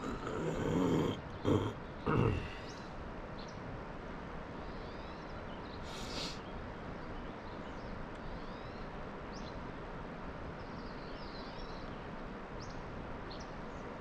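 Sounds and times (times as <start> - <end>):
outdoor background hiss: 0.0 - 14.0
songbirds chirping: 0.0 - 14.0.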